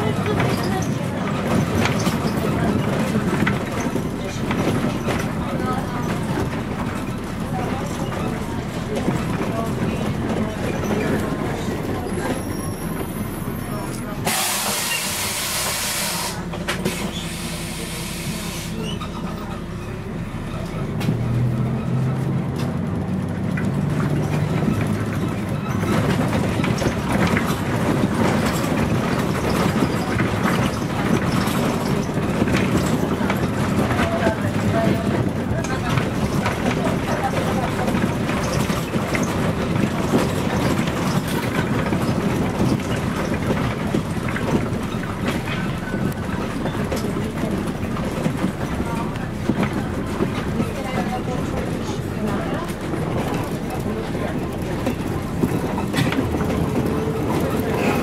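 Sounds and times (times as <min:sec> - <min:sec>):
bus diesel engine running: 0:00.0 - 0:58.0
road rumble: 0:00.0 - 0:58.0.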